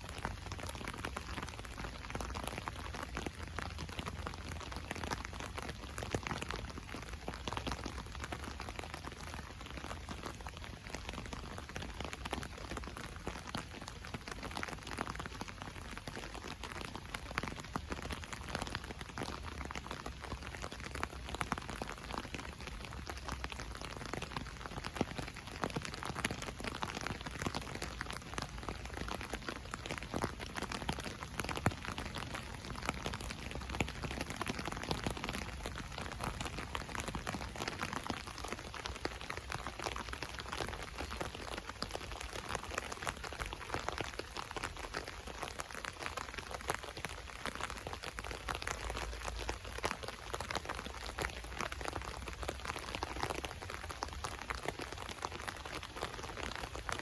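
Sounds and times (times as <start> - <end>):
rain pattering on umbrella: 0.0 - 57.0.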